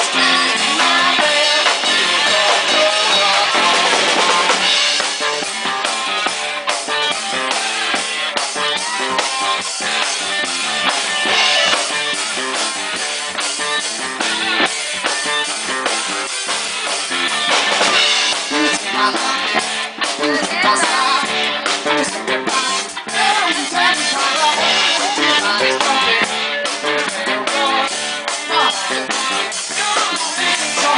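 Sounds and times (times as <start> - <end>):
bass guitar: 0.0 - 30.9
drum kit with rimshots: 0.0 - 30.9
electric guitar: 0.0 - 30.9.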